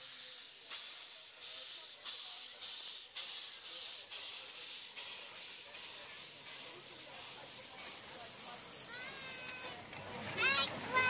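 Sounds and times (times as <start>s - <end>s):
miniature steam locomotive chuffing: 0.0s - 11.0s.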